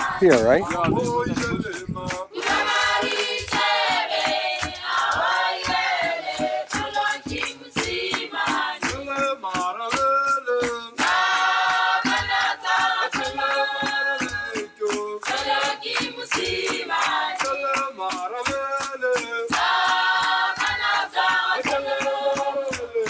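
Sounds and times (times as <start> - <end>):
choir singing: 0.0 - 1.6, 2.2 - 9.9, 10.9 - 18.3, 19.4 - 23.0
percussive beat: 0.0 - 23.0.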